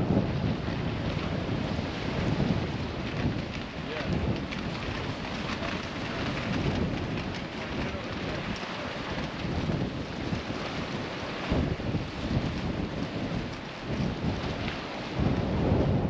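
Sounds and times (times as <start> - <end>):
sea waves on rocky shore: 0.0 - 15.9
wind on microphone: 0.0 - 16.0.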